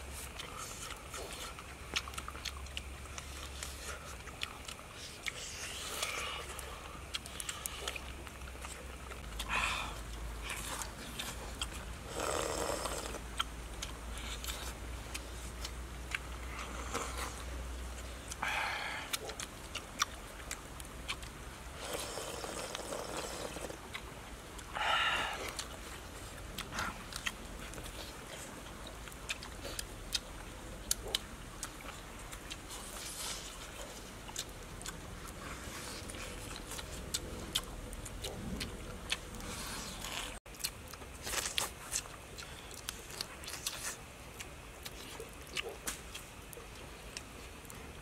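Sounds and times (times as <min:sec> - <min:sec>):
people chewing with mouths open: 0:00.0 - 0:48.0.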